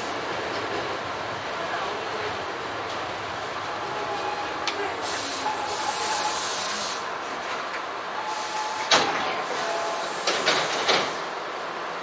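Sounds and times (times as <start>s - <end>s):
train cab background noise: 0.0s - 12.0s.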